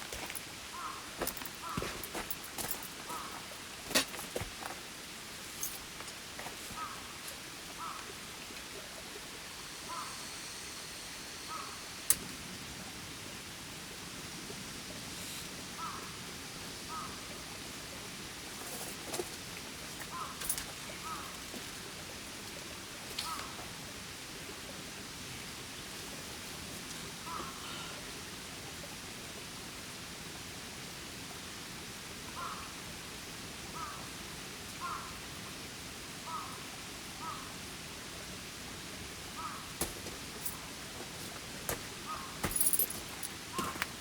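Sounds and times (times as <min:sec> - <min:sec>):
river flowing over stones: 0:00.0 - 0:44.0.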